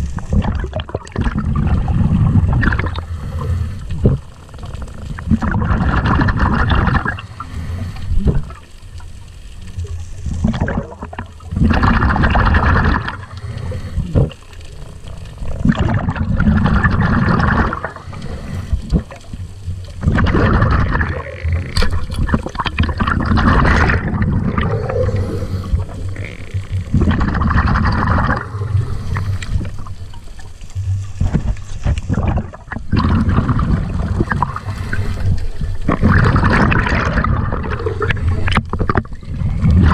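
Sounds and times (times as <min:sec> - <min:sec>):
underwater rushing and gurgling: 0:00.0 - 0:39.9.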